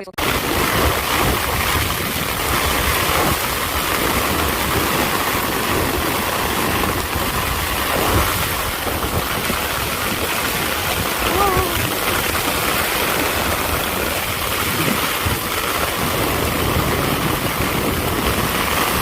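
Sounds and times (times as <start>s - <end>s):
gusting wind: 0.0s - 19.0s
heavy rain pouring: 0.2s - 19.0s.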